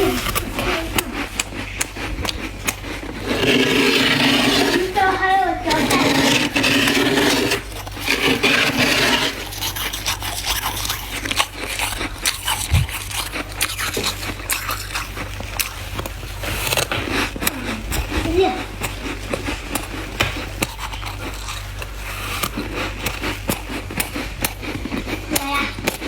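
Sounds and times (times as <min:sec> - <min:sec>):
frost scraping and crunching: 0:00.0 - 0:26.0.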